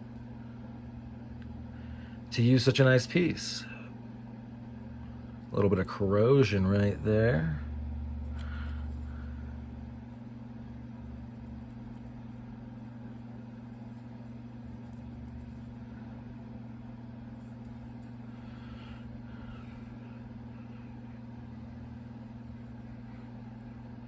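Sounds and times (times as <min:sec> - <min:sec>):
low two-tone hum: 0:00.0 - 0:24.0.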